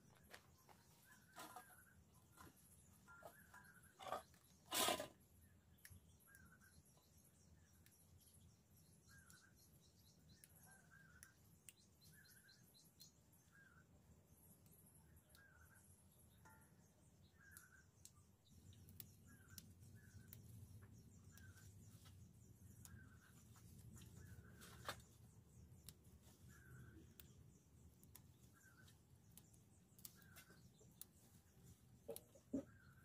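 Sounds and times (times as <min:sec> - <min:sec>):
small bird chirping: 0:00.0 - 0:33.0.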